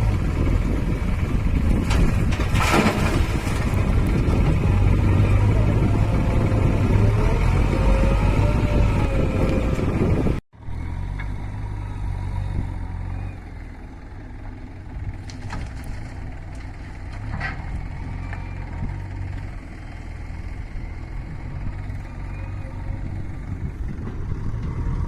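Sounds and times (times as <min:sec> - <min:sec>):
heavy vehicle engine rumbling: 0:00.0 - 0:25.0.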